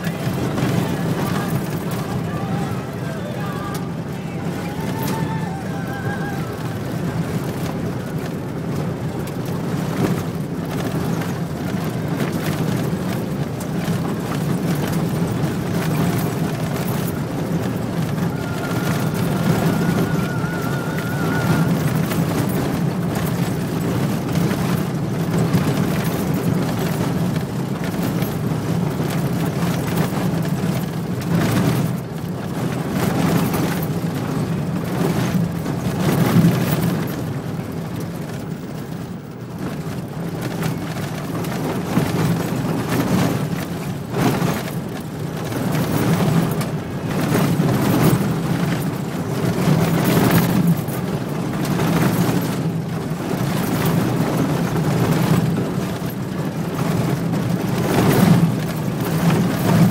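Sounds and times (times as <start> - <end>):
vehicle rumbling on dirt road: 0.0 - 59.9.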